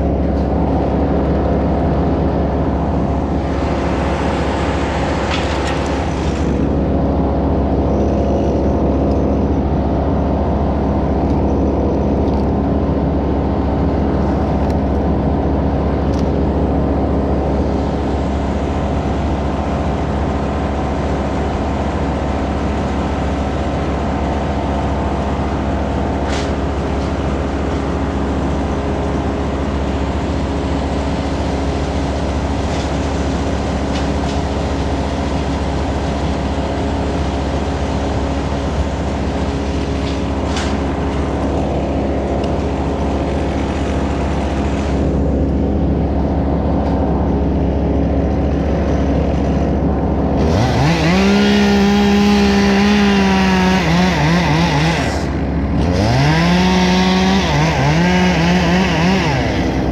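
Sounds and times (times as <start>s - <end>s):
large engine running: 0.0s - 59.9s.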